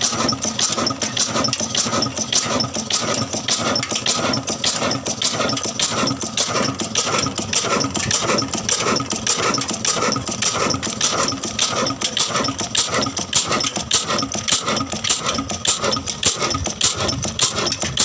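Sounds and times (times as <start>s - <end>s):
diesel engine knocking steadily: 0.0s - 18.0s.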